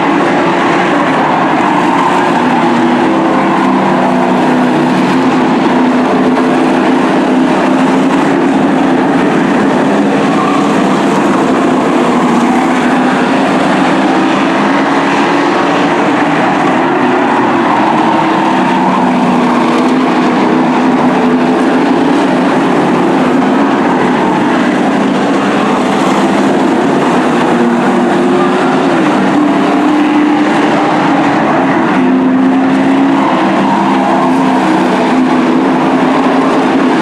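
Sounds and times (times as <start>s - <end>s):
race truck engines droning: 0.0s - 37.0s.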